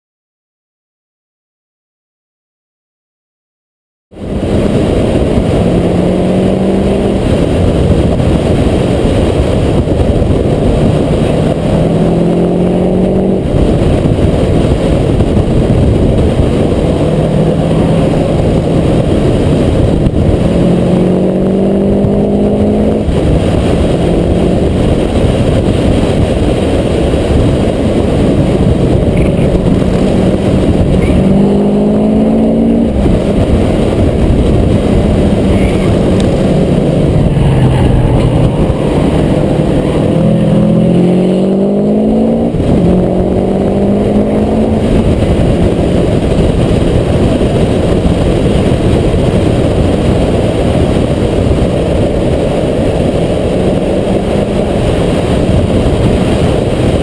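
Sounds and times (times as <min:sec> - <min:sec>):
car engine revving: 0:04.1 - 0:57.0
wind rushing on microphone: 0:04.1 - 0:57.0.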